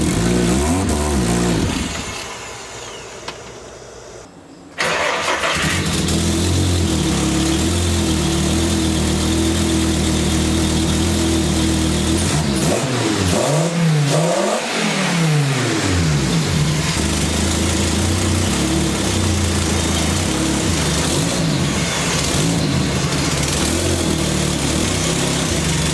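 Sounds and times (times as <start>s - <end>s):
car engine revving and idling: 0.0s - 3.1s, 5.4s - 25.9s.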